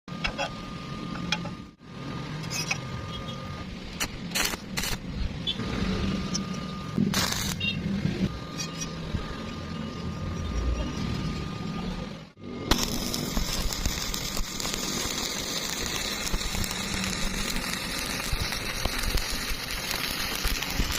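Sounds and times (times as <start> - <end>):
stick welding hum and crackle: 2.3 - 10.6, 12.4 - 20.9.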